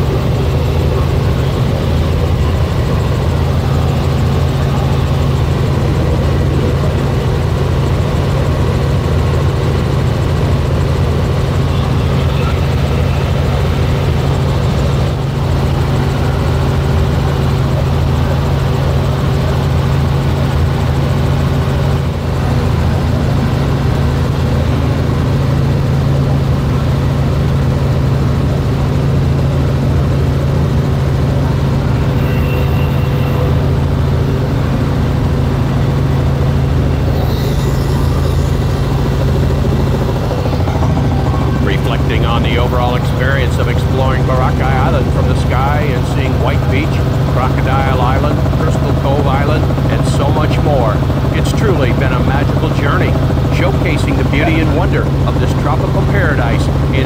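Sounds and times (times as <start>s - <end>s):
helicopter rotor and engine hum: 0.0s - 57.0s.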